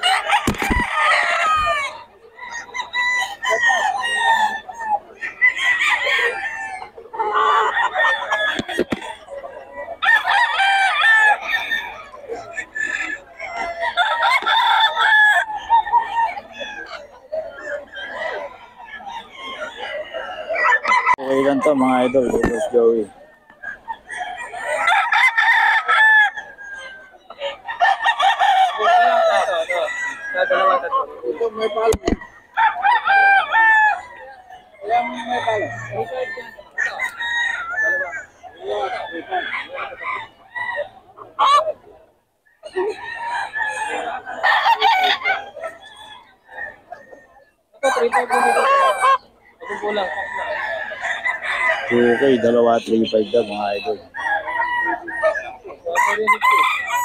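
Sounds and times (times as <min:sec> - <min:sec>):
chickens clucking: 0:00.0 - 0:57.0
roosters crowing: 0:00.0 - 0:57.0.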